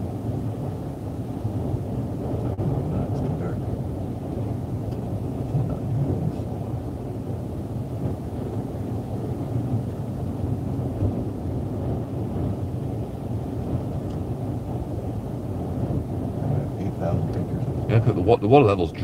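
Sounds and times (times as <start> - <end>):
storm wind rumbling: 0.0 - 19.0.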